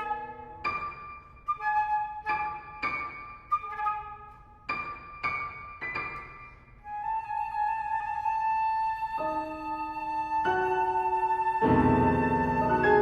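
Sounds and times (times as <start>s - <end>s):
flute: 0.0s - 5.2s, 6.2s - 13.0s
piano notes: 0.0s - 13.0s.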